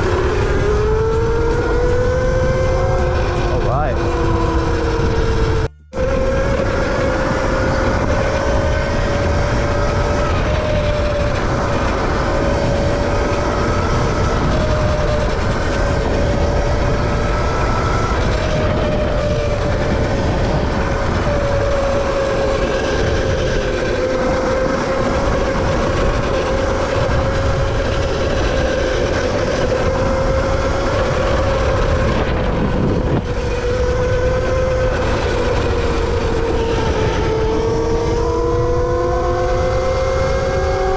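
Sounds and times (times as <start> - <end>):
electric motor whining: 0.0 - 40.9
wind and ground rumble: 0.0 - 40.9.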